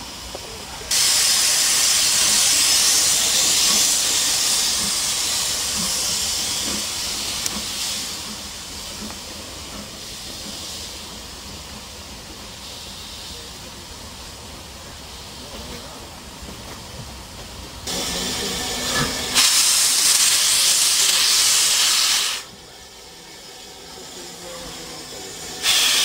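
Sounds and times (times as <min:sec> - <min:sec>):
loud hiss of escaping steam: 0:00.0 - 0:16.3, 0:17.8 - 0:26.0.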